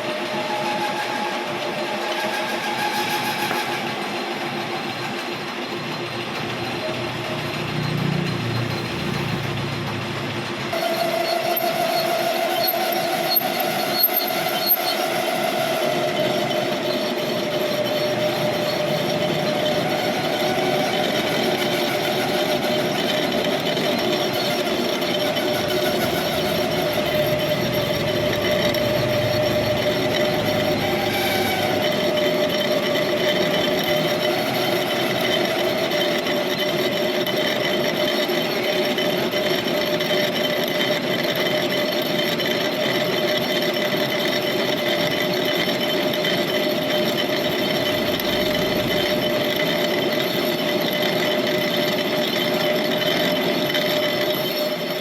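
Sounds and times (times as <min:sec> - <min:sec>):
metal lathe running: 0:00.0 - 0:55.0
thin metallic cutting whine: 0:00.0 - 0:55.0.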